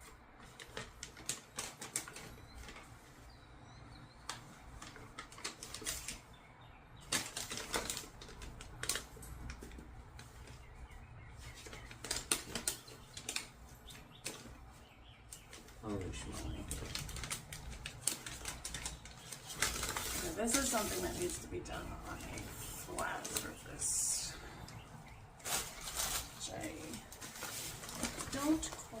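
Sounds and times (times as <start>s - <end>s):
adhesive sheet crackling and rustling: 0.4s - 3.3s, 4.0s - 6.4s, 7.0s - 23.9s, 25.0s - 29.0s.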